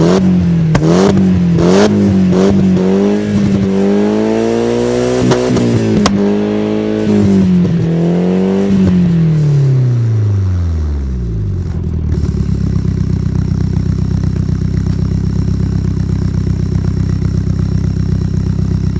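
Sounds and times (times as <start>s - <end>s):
car engine revving and idling: 0.0s - 18.9s.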